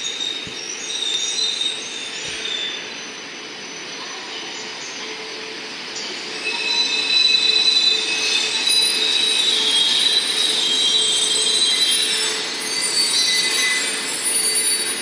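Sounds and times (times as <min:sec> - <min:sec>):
high steady squealing tones: 0:00.0 - 0:04.9, 0:06.0 - 0:15.0
train rolling noise: 0:00.0 - 0:15.0.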